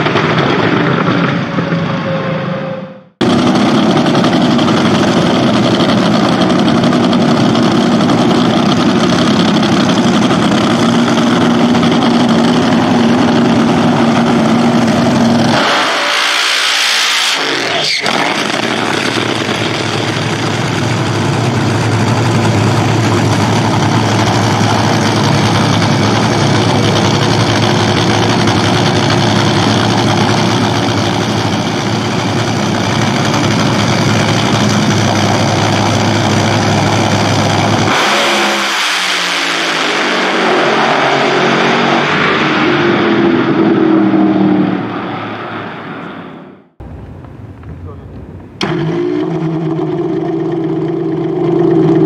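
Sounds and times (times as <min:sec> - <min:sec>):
dragster engine roaring: 0:00.0 - 0:52.0.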